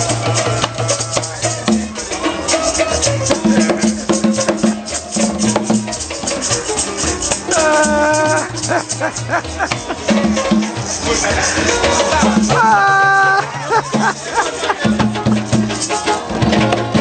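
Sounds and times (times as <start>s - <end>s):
acoustic guitar: 0.0s - 17.0s
hand drum: 0.0s - 17.0s
maracas shaking: 0.0s - 17.0s.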